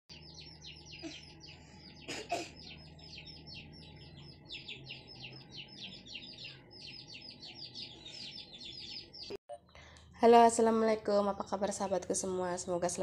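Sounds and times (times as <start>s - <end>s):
birds chirping: 0.1s - 10.0s, 10.6s - 13.0s.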